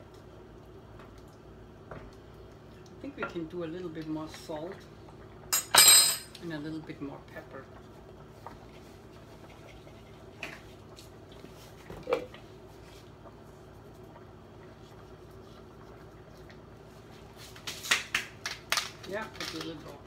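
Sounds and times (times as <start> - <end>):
low kitchen hum: 0.0 - 20.0.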